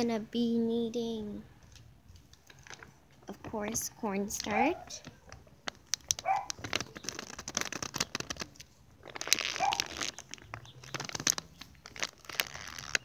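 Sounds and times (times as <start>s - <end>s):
plastic bag crinkling: 2.3s - 13.0s.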